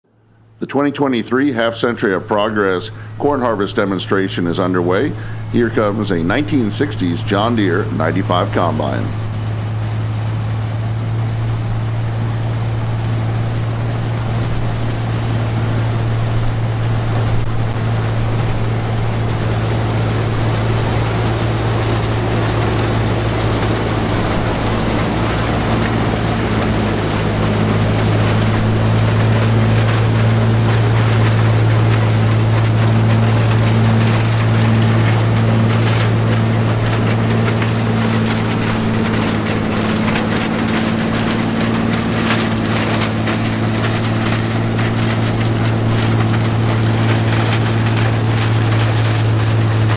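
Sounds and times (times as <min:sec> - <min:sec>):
combine engine hum: 0:00.0 - 0:49.9
threshing machinery rattle: 0:01.8 - 0:49.9.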